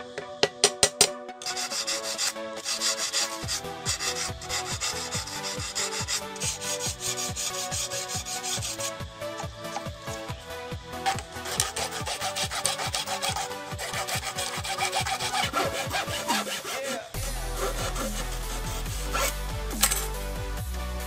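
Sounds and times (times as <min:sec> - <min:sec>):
machete scraping bamboo: 0:01.4 - 0:10.4, 0:11.0 - 0:20.2.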